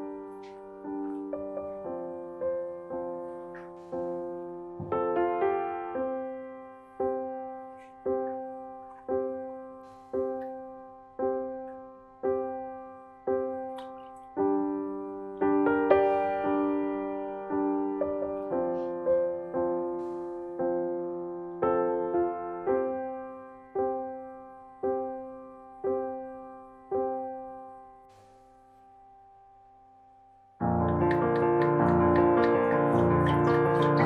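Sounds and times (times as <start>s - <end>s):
soft piano chords: 0.0s - 34.0s.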